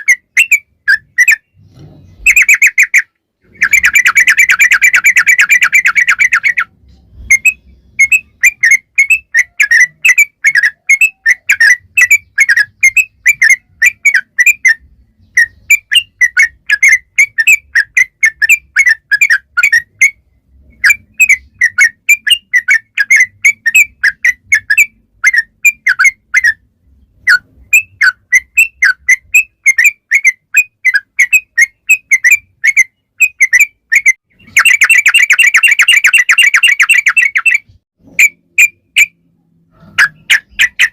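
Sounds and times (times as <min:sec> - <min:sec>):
bird singing whistled notes: 0:00.0 - 0:39.2, 0:39.8 - 0:40.9.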